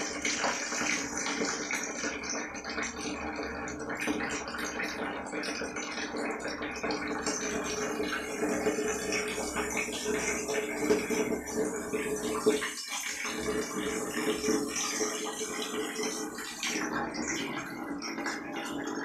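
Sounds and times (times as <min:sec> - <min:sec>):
water running and splashing: 0:00.0 - 0:19.0.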